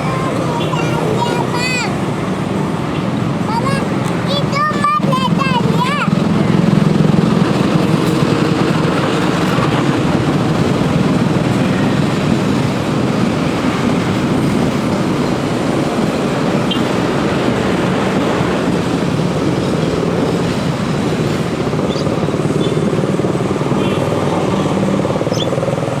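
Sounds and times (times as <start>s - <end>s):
train rumbling by: 0.0s - 26.0s.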